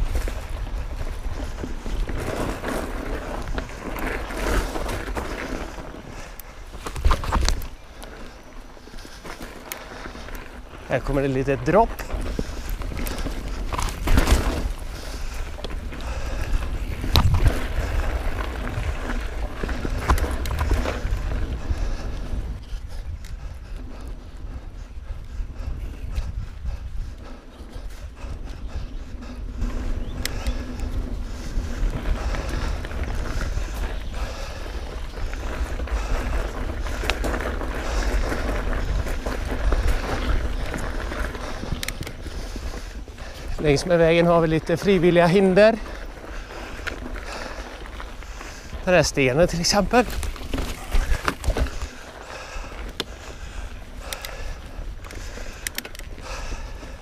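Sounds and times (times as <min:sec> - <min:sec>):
bike rattling over dirt trail: 0:00.0 - 0:57.0
wind buffeting microphone: 0:00.0 - 0:57.0.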